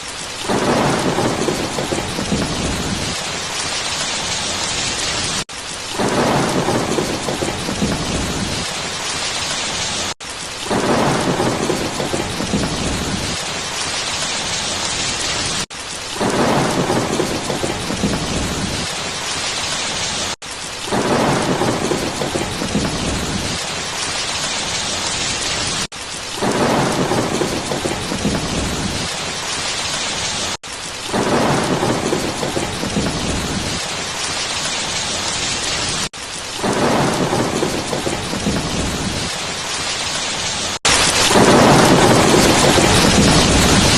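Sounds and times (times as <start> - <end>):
heavy rain hissing: 0.0 - 43.9
thunder rumbling: 0.4 - 15.6, 16.2 - 43.9.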